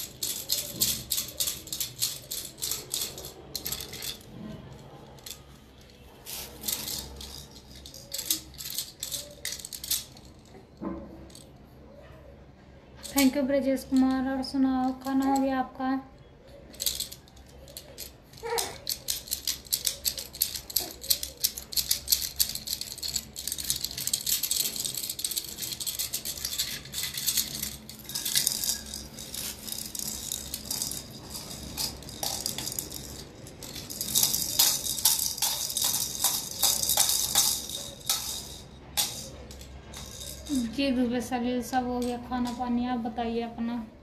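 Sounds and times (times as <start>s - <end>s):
bangles rattling and clicking: 0.0s - 11.7s, 13.0s - 15.8s, 16.4s - 43.0s.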